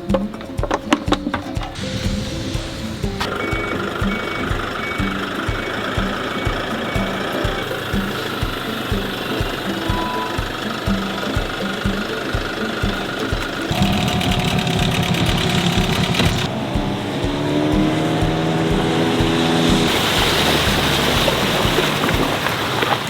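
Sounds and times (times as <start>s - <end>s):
outboard motor running: 1.8s - 23.0s.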